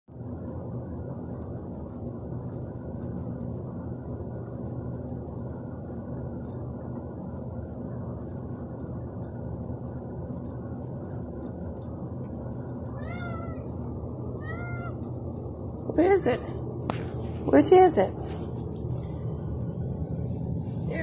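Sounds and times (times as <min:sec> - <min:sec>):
low indoor background hum: 0:00.1 - 0:21.0.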